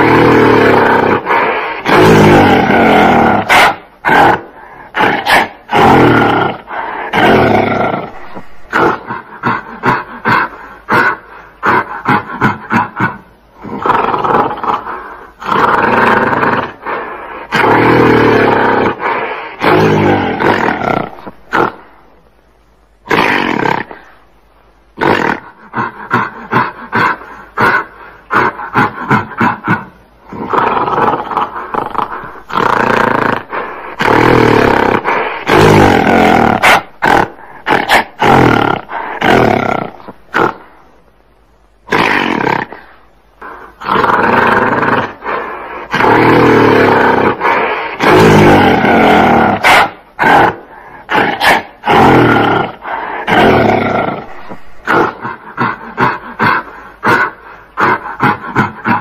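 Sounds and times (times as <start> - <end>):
gorilla roaring and grunting: 0.0 - 22.0, 23.0 - 24.2, 25.0 - 40.7, 41.8 - 59.0.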